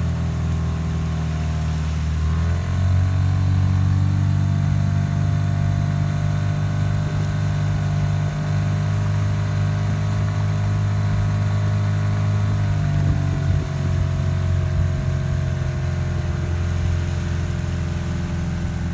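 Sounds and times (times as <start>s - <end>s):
outboard motor running: 0.0s - 18.9s.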